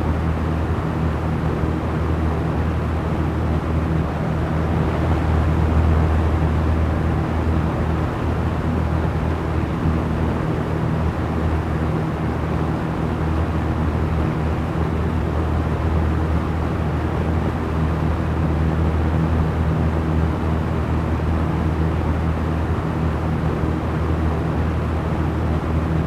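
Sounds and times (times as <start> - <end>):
electric fan running: 0.0 - 26.0.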